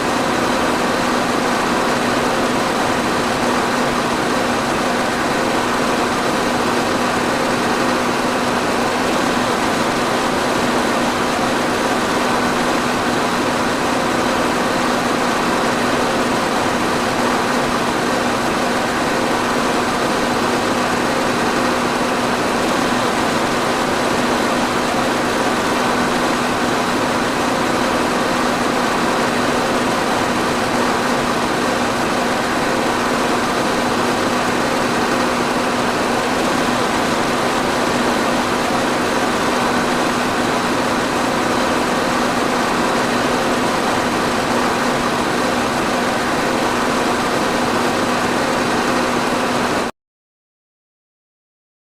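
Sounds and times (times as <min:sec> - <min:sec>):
electric fan running: 0:00.0 - 0:49.9.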